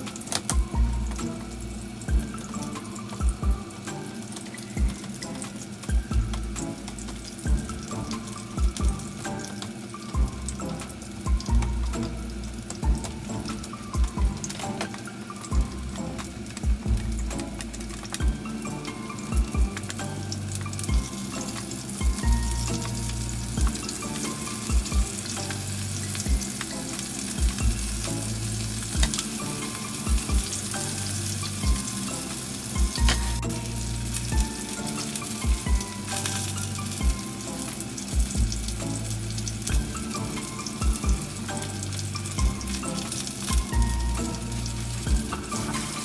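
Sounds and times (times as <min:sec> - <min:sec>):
background music with beat: 0:00.0 - 0:46.0
food sizzling in a pan: 0:00.0 - 0:46.0.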